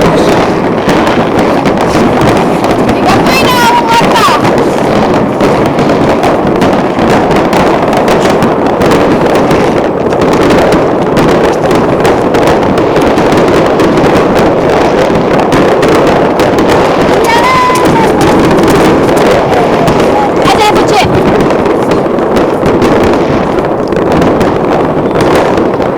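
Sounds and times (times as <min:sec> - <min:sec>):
firework whistling: 0:00.0 - 0:25.9
fireworks bangs and crackles: 0:00.0 - 0:25.9.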